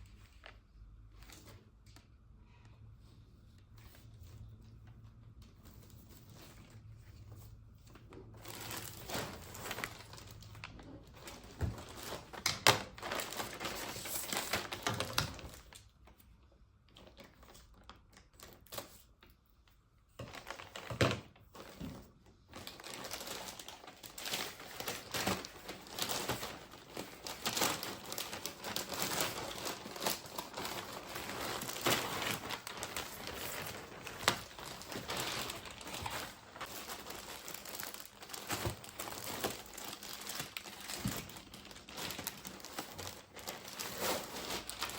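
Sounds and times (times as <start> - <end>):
packaging crinkling and rustling: 3.7 - 44.9.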